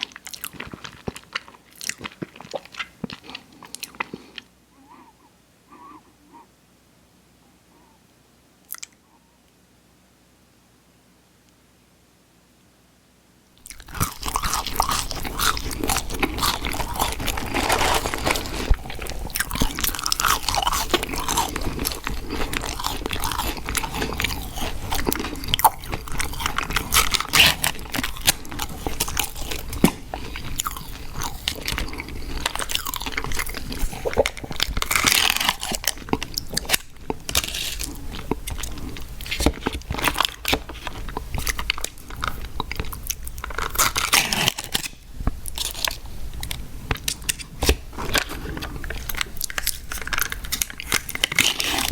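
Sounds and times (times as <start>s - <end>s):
chewing and crunching food: 0.0s - 6.5s, 8.7s - 9.3s, 13.6s - 51.9s.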